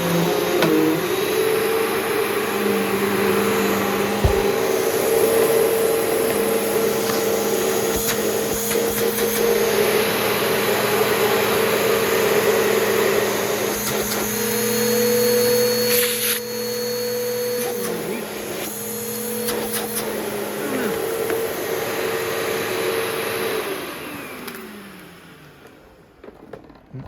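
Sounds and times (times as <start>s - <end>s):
vacuum cleaner running over carpet: 0.0s - 26.8s.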